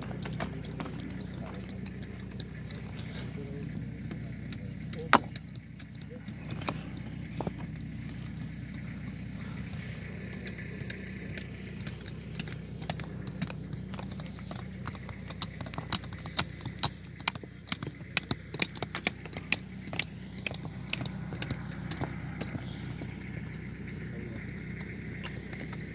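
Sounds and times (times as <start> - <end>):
hand tools chipping stone: 0.0 - 7.8, 9.7 - 25.9
low steady hum: 0.0 - 25.9.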